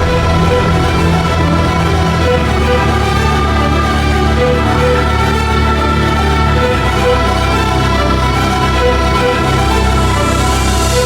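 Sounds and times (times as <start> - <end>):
steady low bass: 0.0 - 11.0
sustained synthesizer tones: 0.0 - 11.0.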